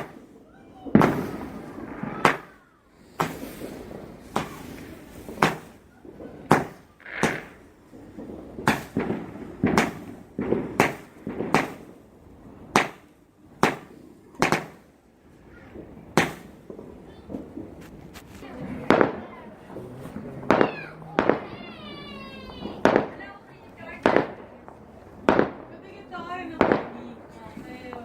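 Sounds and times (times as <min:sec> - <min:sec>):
fireworks bangs with rumbling echo: 0:00.0 - 0:28.0.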